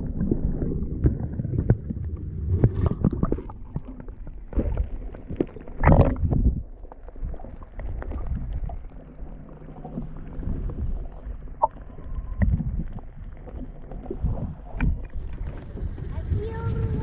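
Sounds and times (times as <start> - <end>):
faint underwater clicks and knocks: 0.0 - 16.4
steady low hum: 0.0 - 17.0
underwater rumble: 0.0 - 17.0.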